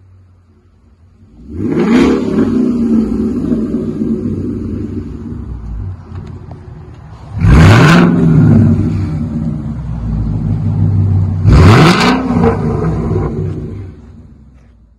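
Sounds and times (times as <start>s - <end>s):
car engine idling and revving: 0.0s - 14.9s.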